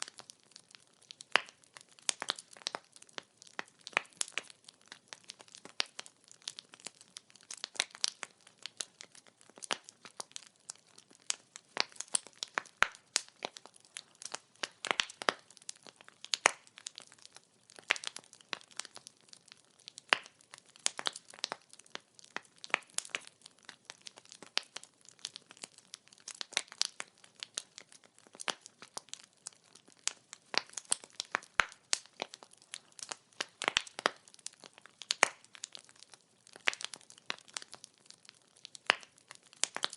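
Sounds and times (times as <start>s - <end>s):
firewood popping and snapping: 0.0s - 39.9s.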